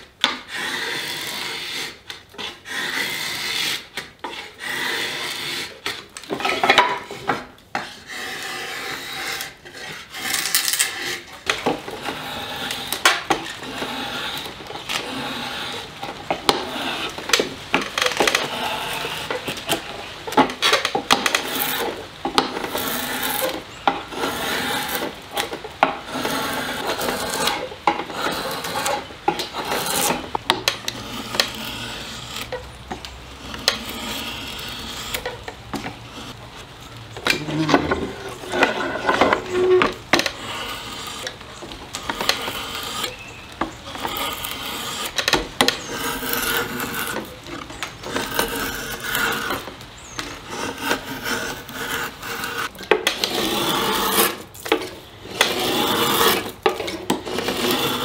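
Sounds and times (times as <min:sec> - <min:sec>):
drawknife scraping wood: 0:00.0 - 0:58.0.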